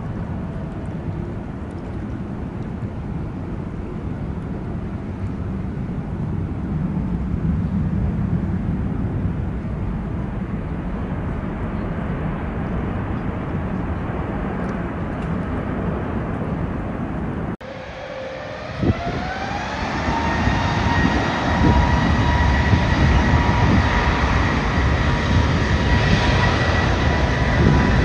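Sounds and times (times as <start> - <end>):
distant jet engines: 0.0 - 28.0.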